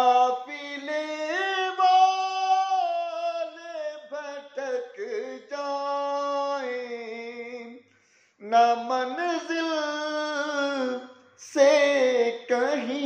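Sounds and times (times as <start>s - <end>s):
man singing unaccompanied: 0.0s - 7.8s, 8.4s - 13.0s.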